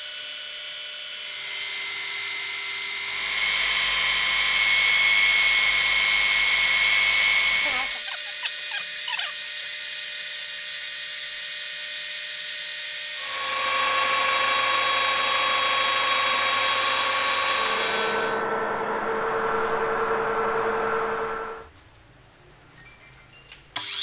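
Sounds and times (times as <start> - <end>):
metal lathe whining: 0.1 - 21.7.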